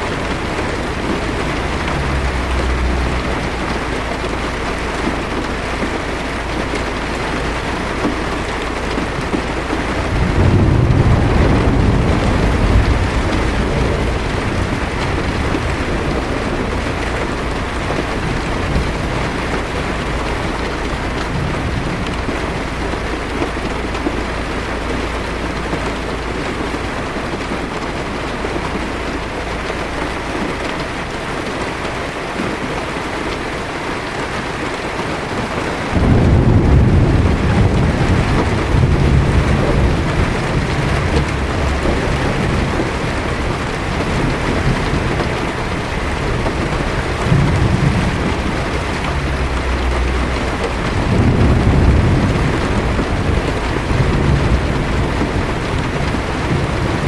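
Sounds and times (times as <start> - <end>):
heavy rain on car roof: 0.0 - 57.0
thunder rumbling: 0.0 - 57.0.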